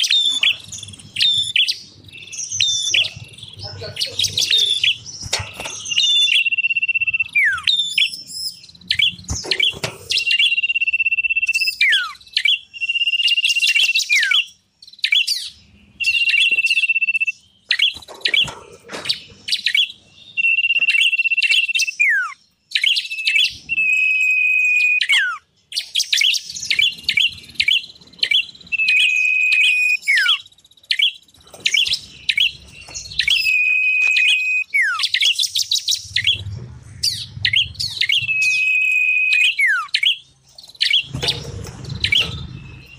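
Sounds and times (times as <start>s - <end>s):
rapid high bird chirps and trills: 0.0s - 42.9s.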